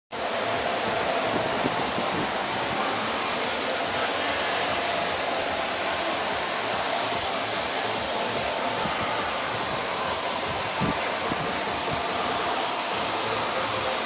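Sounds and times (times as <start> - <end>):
steady rushing noise: 0.1 - 14.0.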